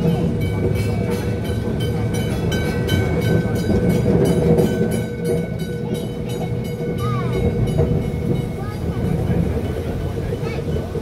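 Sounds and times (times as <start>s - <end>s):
tram rumbling: 0.0s - 11.0s.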